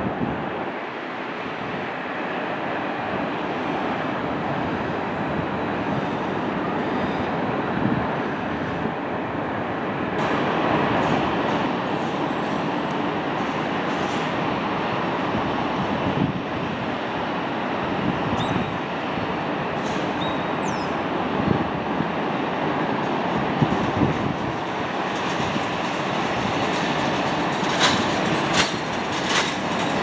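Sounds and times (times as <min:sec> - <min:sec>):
distant jet engines roaring: 0:00.0 - 0:30.0.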